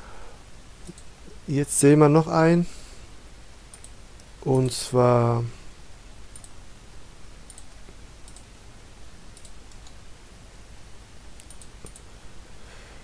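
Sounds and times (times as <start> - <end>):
faint background hiss and hum: 0.0 - 13.0.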